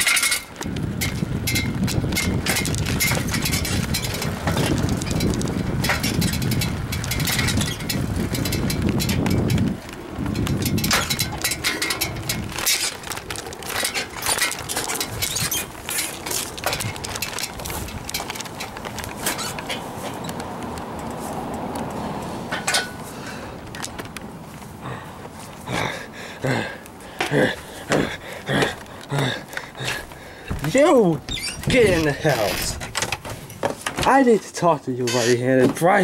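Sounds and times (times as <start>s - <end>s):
bicycle rattles and clicks: 0.0s - 36.0s
wind and tyre rumble: 0.0s - 36.0s.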